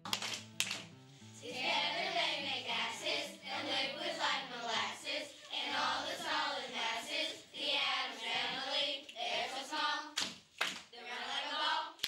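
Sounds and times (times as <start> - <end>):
children singing: 1.4 - 10.2, 11.0 - 12.0.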